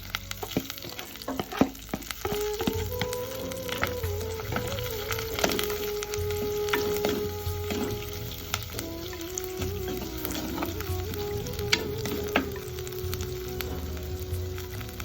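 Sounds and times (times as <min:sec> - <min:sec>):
fish frying in hot oil: 0:00.0 - 0:15.0
soft background music: 0:00.0 - 0:15.0.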